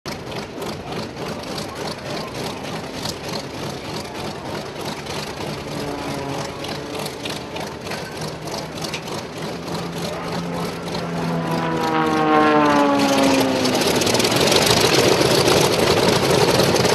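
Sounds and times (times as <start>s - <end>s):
piston aircraft engines idling: 0.1s - 16.9s.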